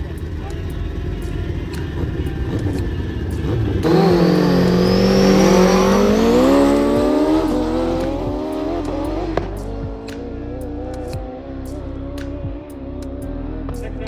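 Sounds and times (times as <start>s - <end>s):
race car engine at speed: 0.0s - 14.0s.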